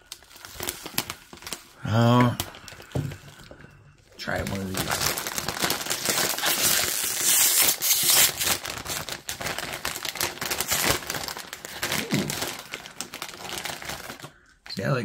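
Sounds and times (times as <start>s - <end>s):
plastic snack bag crinkling: 0.0s - 14.9s.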